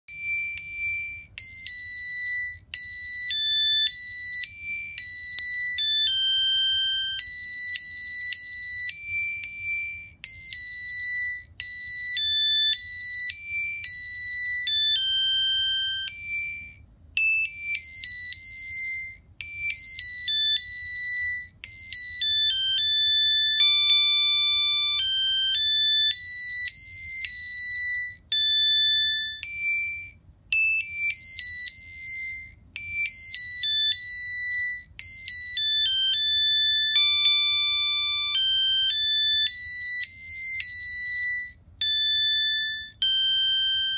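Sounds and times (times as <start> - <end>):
electronic christmas tune beeping: 0.1 - 43.9.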